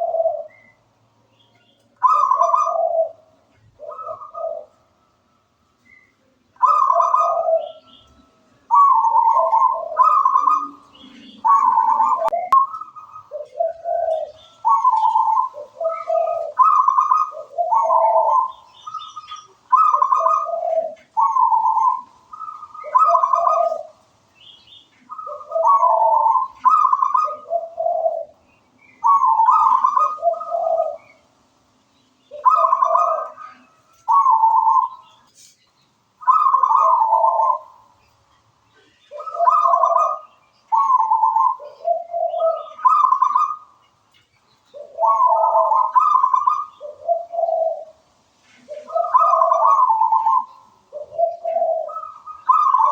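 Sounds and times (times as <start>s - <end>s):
dove cooing: 0.0s - 1.1s, 1.9s - 5.0s, 5.8s - 24.2s, 25.0s - 31.4s, 32.2s - 35.6s, 36.2s - 38.0s, 38.7s - 52.9s.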